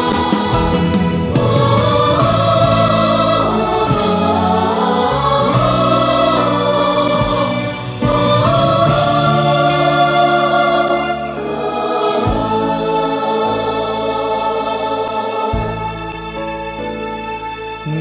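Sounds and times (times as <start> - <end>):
mixed choir singing: 0.0 - 16.8
orchestra: 0.0 - 18.0.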